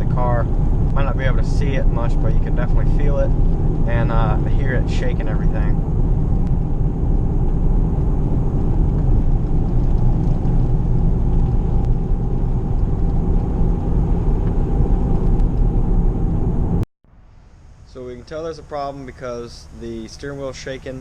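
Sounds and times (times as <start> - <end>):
car interior rumble while driving: 0.0 - 16.8.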